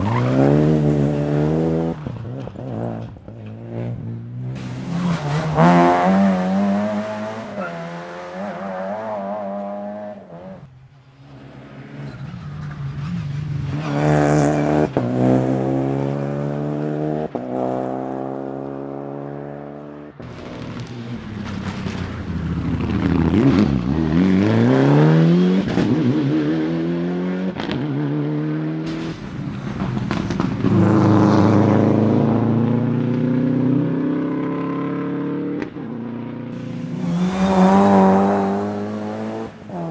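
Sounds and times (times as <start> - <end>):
rally car engines revving hard: 0.0 - 39.9.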